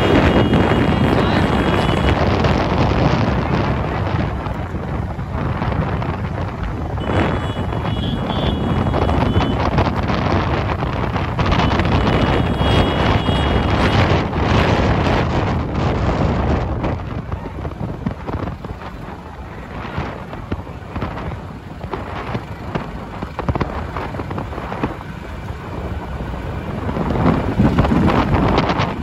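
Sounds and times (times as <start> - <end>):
motorcycle engines running: 0.0 - 29.0
wind buffeting microphone: 0.0 - 29.0.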